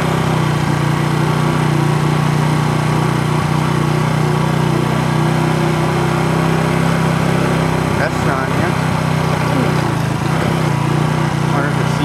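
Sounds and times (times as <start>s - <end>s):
small engine steady hum: 0.0s - 12.0s.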